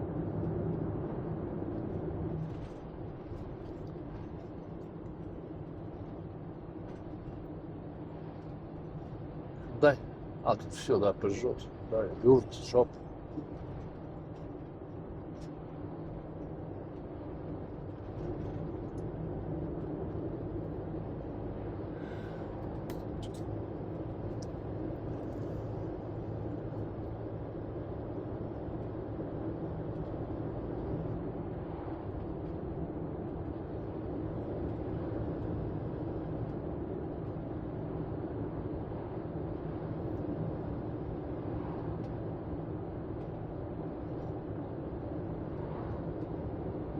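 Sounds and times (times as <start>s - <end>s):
car engine and tyre hum: 0.0s - 46.9s.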